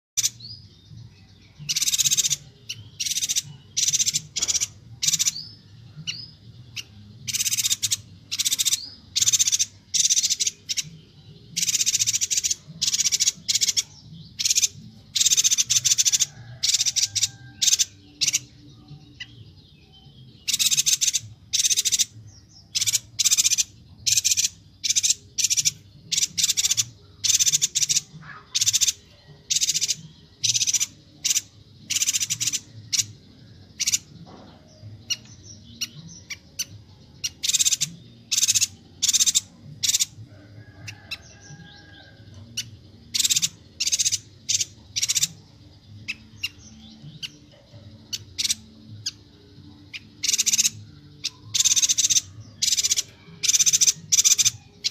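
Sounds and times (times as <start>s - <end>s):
bird harsh chattering calls: 1.6s - 18.5s, 20.4s - 54.9s.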